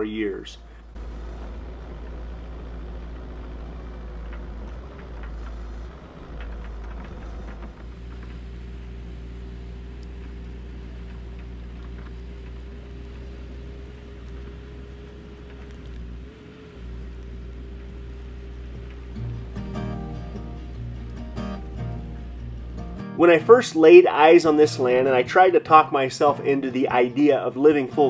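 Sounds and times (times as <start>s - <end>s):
compact excavator engine rumbling: 0.0s - 28.0s
held whine: 0.0s - 28.0s.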